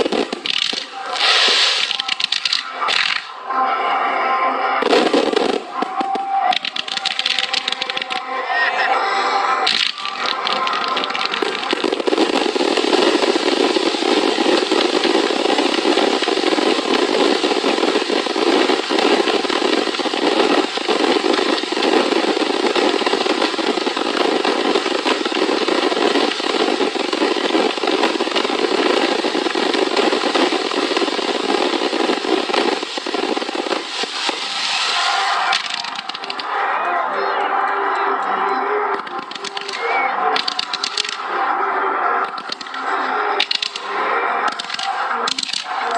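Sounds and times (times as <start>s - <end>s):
fireworks crackling: 0.0s - 3.4s, 4.8s - 36.8s, 38.8s - 45.9s.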